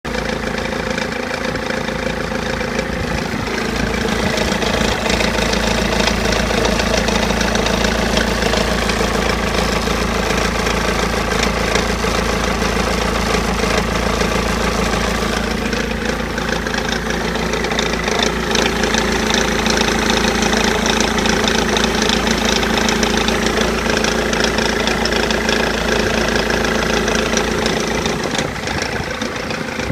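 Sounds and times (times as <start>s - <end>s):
diesel engine idling roughly: 0.0s - 29.9s
engine rattling noise: 0.0s - 29.9s.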